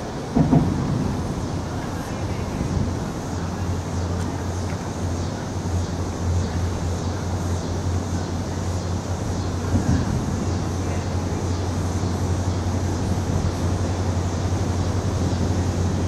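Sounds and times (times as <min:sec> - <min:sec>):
distant locomotive engine hum: 0:00.0 - 0:16.0
train noise: 0:00.0 - 0:16.0.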